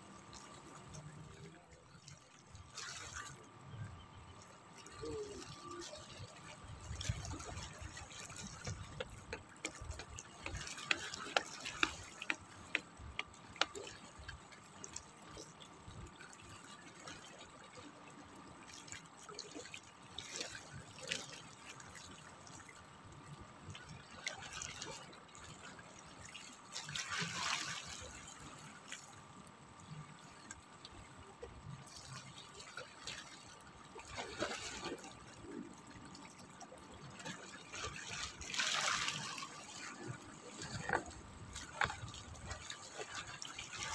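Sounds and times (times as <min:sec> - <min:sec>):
small waves lapping on rocks: 0:00.0 - 0:43.9
water dripping and trickling: 0:00.0 - 0:43.9.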